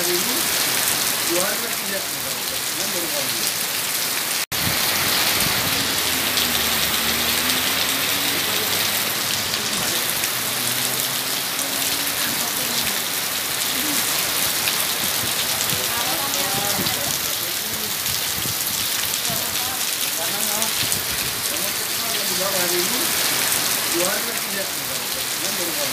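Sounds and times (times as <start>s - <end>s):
heavy rain on pavement: 0.0s - 25.9s.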